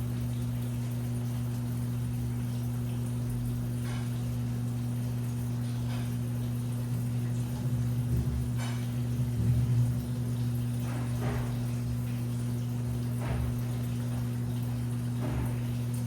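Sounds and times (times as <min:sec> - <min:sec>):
washing machine motor hum: 0:00.0 - 0:16.0
water sloshing in drum: 0:00.0 - 0:16.0.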